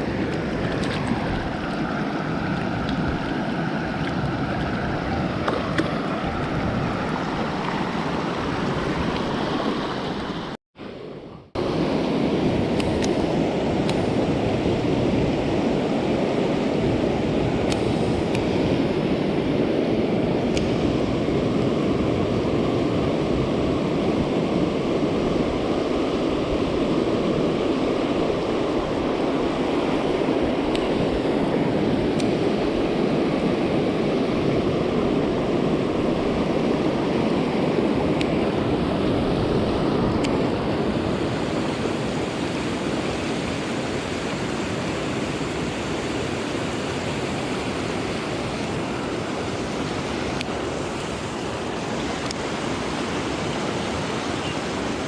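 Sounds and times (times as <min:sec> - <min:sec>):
fast-flowing stream: 0:00.0 - 0:55.0.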